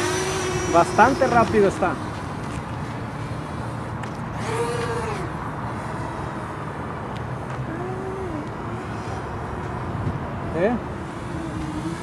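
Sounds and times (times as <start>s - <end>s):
drone propellers whining: 0.0s - 12.0s
steady outdoor hiss: 0.0s - 12.0s.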